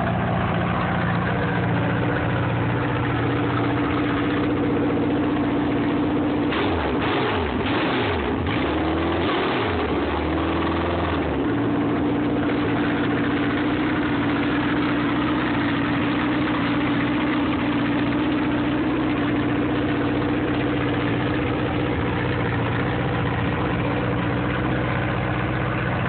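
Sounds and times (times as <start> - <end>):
racing engine running: 0.0 - 26.0.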